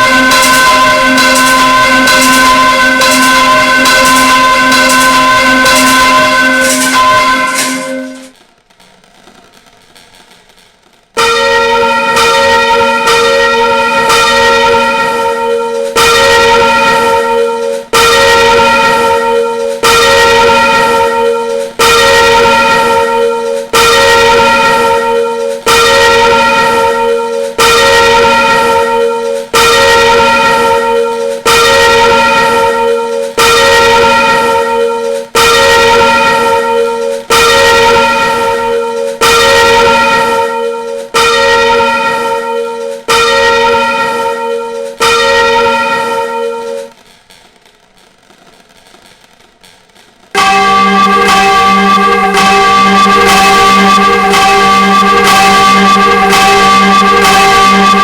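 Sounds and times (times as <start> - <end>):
church bell ringing: 0.0 - 8.3, 11.2 - 46.9, 50.4 - 58.0.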